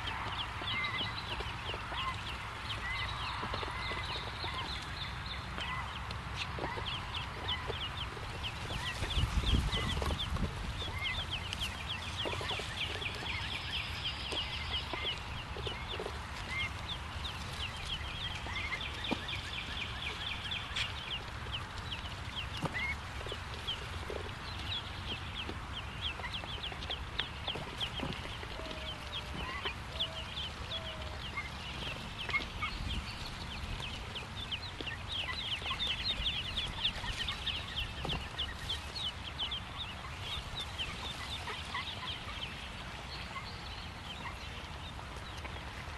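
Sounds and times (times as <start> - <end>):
ducklings peeping: 0.0 - 45.9.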